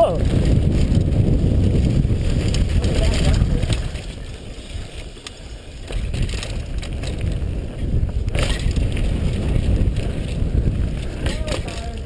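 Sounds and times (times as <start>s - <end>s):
tyres on dirt: 0.0s - 12.0s
wind on microphone: 0.0s - 12.0s
bike clicks and rattles: 0.2s - 12.0s.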